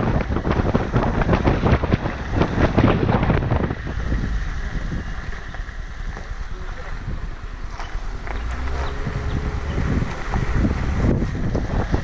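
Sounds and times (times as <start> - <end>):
tyres on dirt track: 0.0 - 12.0
vehicle engine rumble: 0.0 - 12.0
wind buffeting microphone: 0.0 - 12.0.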